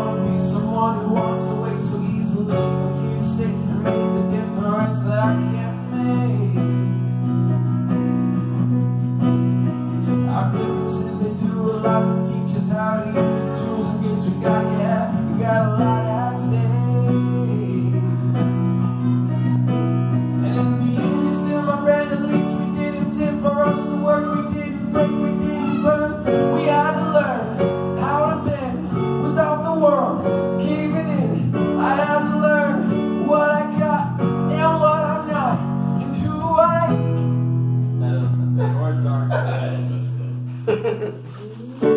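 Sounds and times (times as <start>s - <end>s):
man singing: 0.0s - 7.4s, 9.9s - 37.4s
keyboard chords: 0.0s - 41.2s
strummed acoustic guitar: 0.0s - 41.9s.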